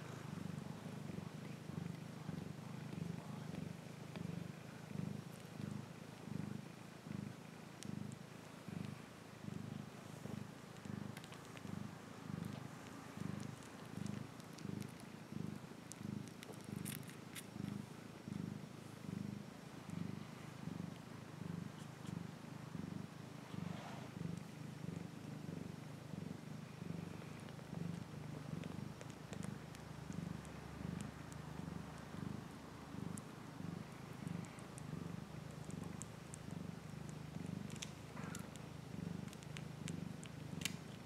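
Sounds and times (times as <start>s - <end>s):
cat purring: 0.0s - 41.0s.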